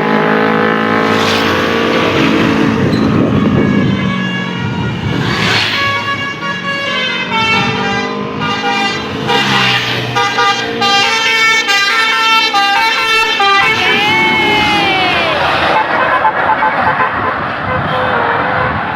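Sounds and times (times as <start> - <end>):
multi-tone bus horn tune: 2.9 - 14.7, 15.5 - 18.9.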